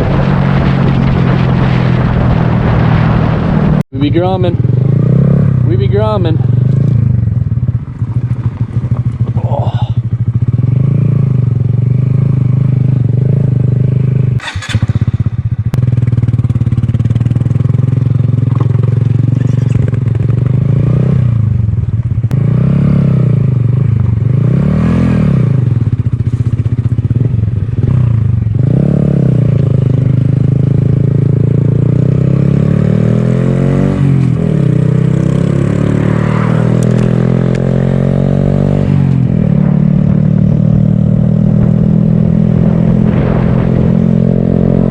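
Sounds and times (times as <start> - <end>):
motorcycle engine revving: 0.0 - 44.9
second engine: 0.0 - 44.9.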